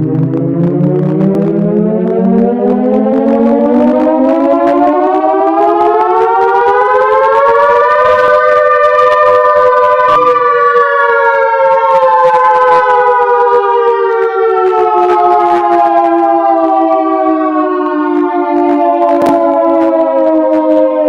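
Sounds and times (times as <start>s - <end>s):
air raid siren winding up: 0.0s - 21.0s.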